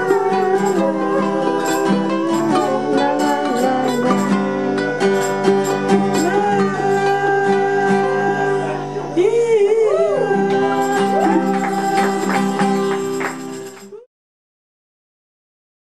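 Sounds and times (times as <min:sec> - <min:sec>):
held instrumental notes: 0:00.0 - 0:14.0
person singing: 0:00.0 - 0:14.1.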